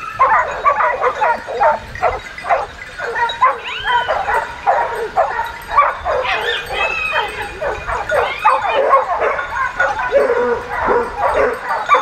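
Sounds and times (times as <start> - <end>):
dog yelping: 0.0 - 12.0
dogs barking: 0.0 - 12.0.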